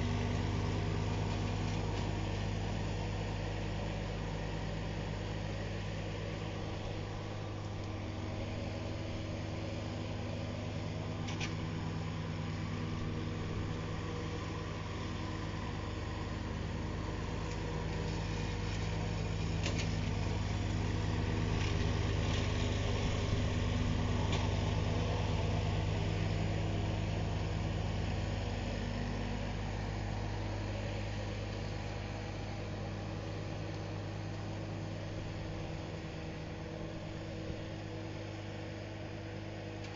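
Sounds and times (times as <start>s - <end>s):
tractor mower engine hum: 0.0s - 39.9s.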